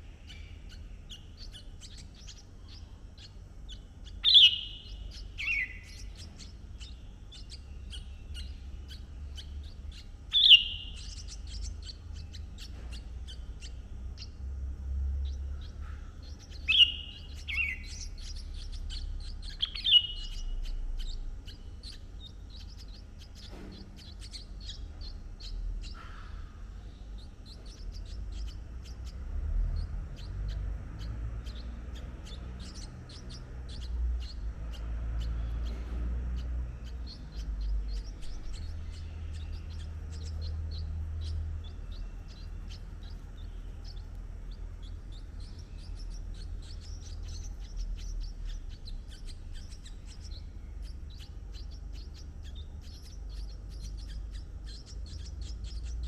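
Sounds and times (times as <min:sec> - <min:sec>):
faint high chirps: 0:00.0 - 0:56.0
low rumble: 0:10.9 - 0:56.0.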